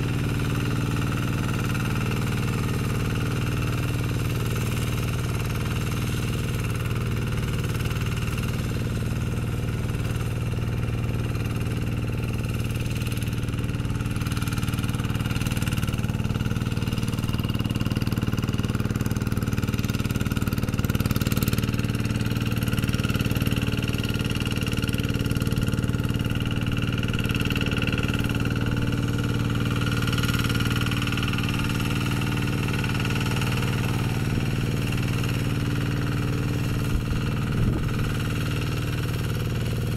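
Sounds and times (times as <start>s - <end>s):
single-cylinder diesel engine running: 0.0s - 39.9s.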